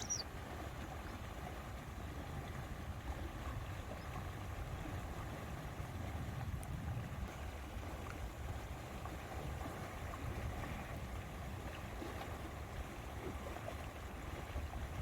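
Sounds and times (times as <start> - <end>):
small water splashes: 0.0 - 15.0
water lapping: 0.0 - 15.0
wind rumble on microphone: 0.0 - 15.0.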